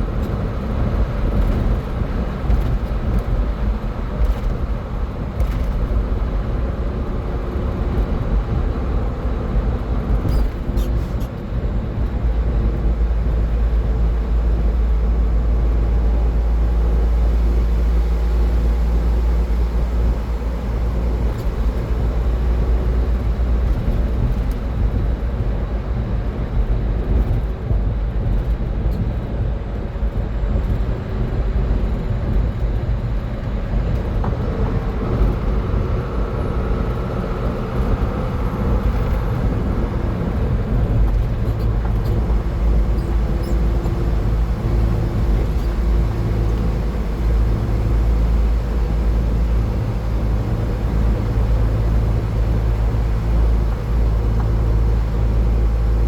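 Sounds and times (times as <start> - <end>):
low engine rumble: 0.0 - 56.0
tyre and road noise: 0.0 - 56.0
wind rumble: 0.0 - 56.0.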